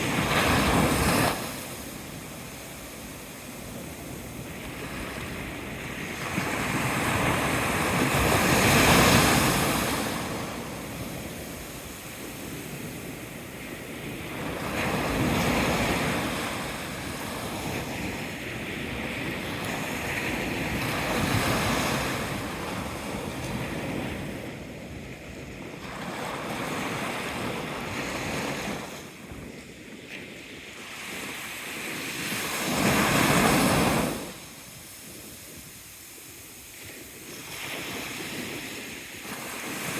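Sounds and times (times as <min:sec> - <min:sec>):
sea waves breaking: 0:00.0 - 0:24.8, 0:30.2 - 0:39.9.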